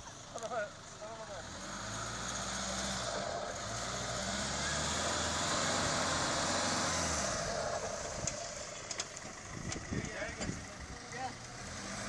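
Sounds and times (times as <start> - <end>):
truck engine under throttle: 0.2 - 12.0.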